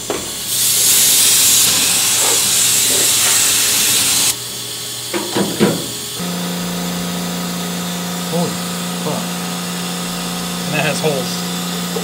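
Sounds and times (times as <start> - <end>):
compressed air blow gun hissing: 0.0 - 12.0.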